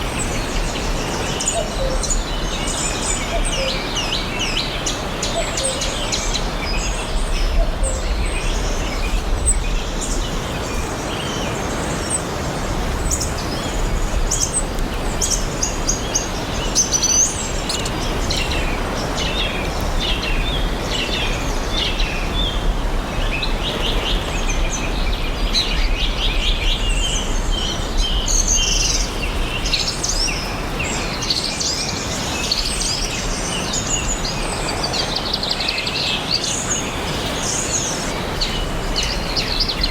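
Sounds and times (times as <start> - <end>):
songbirds chirping and singing: 0.0 - 39.9
steady outdoor hiss: 0.0 - 39.9.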